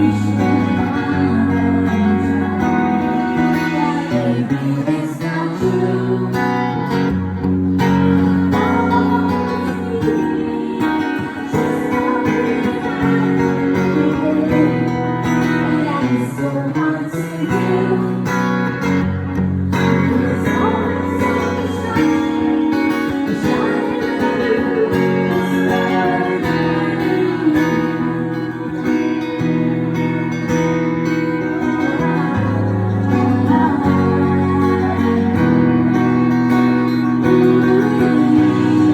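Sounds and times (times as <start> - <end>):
person singing: 0.0 - 18.9, 19.8 - 38.9
strummed acoustic guitar: 0.0 - 38.9.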